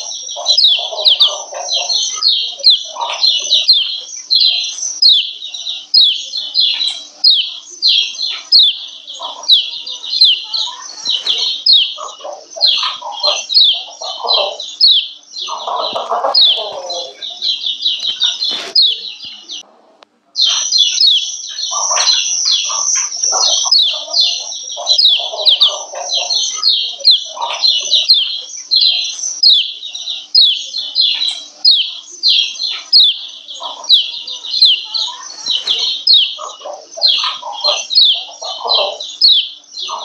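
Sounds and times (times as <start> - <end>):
bird chirping rapidly: 0.0 - 19.6, 20.4 - 40.0.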